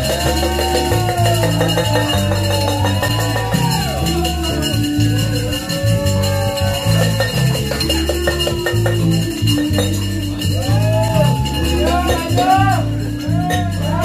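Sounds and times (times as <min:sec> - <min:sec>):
latin salsa music: 0:00.0 - 0:14.0
percussion: 0:00.0 - 0:14.0
repeating bass line: 0:00.0 - 0:14.0.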